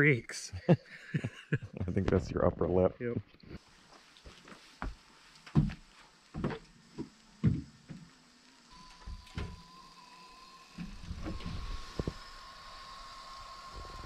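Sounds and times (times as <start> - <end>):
steady high whine: 0.0 - 14.0.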